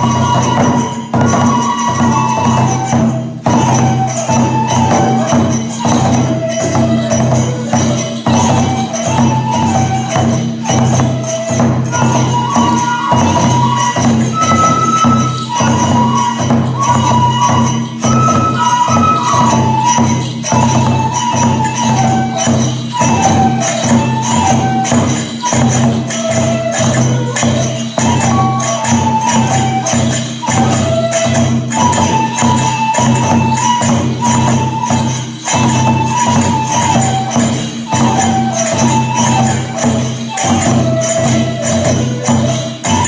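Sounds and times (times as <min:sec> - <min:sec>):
bamboo flute melody: 0:00.0 - 0:43.0
jangling hand cymbals: 0:00.0 - 0:43.0.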